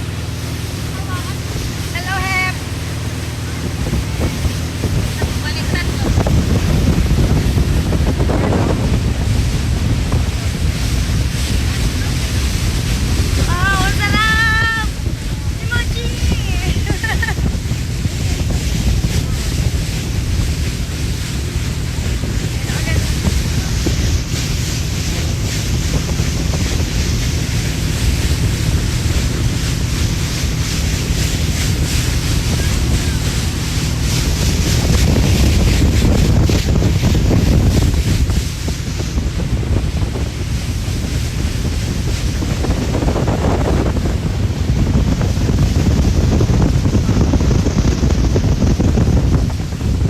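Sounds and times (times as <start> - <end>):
rushing water: 0.0 - 50.0
wind buffeting microphone: 0.0 - 50.0.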